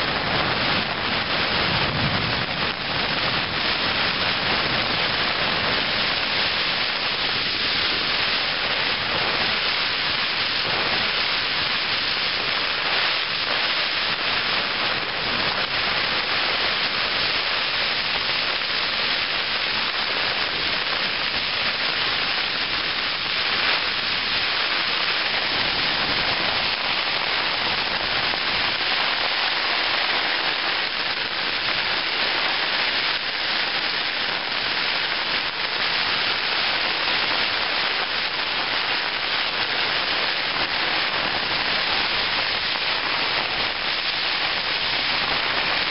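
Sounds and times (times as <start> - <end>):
heavy rain on tent fabric: 0.0 - 45.9.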